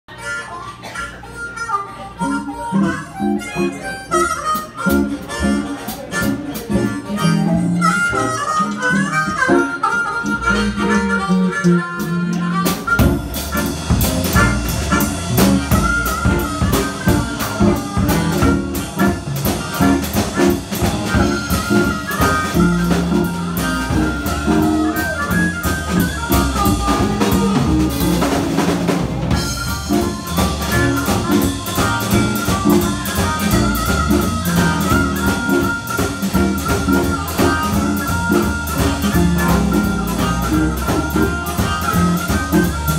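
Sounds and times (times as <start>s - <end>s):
harmonica melody: 0.1s - 42.9s
electric guitar: 1.2s - 42.9s
drum kit and bass beat: 4.5s - 42.9s.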